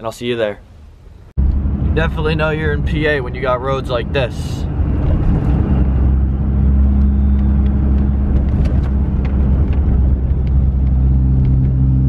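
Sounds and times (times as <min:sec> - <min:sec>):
road noise: 0:00.0 - 0:12.0
diesel engine drone: 0:01.0 - 0:12.0.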